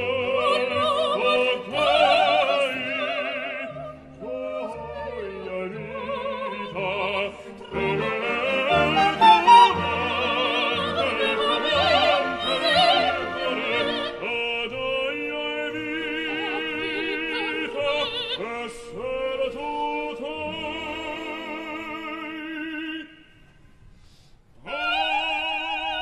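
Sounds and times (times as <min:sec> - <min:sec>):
operatic singing with orchestra: 0:00.0 - 0:23.3, 0:24.6 - 0:26.0.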